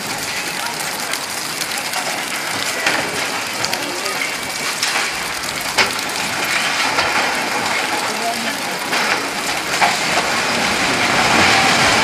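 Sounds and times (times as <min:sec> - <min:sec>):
heavy rain pouring: 0:00.0 - 0:12.0
raindrops striking close by: 0:00.0 - 0:12.0.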